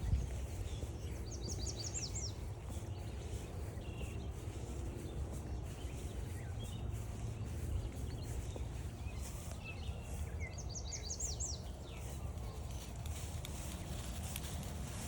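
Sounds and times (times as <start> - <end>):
low outdoor rumble: 0.0 - 15.0
songbird singing: 0.0 - 15.0.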